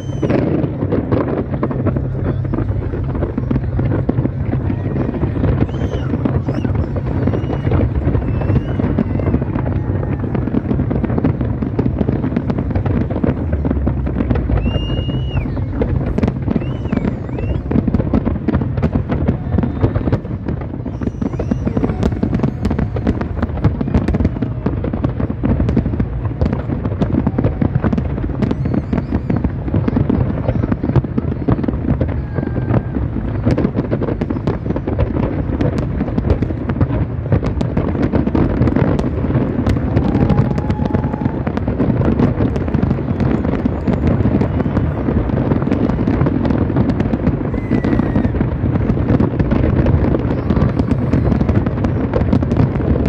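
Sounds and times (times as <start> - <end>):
fireworks cracks and bangs: 0.0 - 53.0
fireworks whistles: 0.0 - 53.0.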